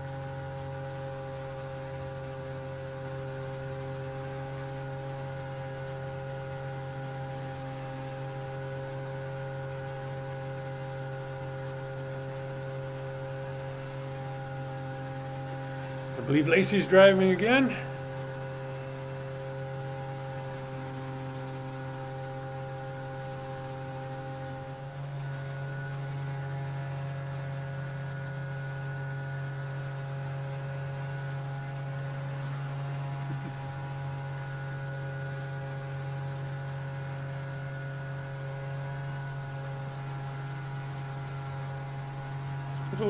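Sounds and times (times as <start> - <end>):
outboard jet boat motor droning: 0.0 - 43.0.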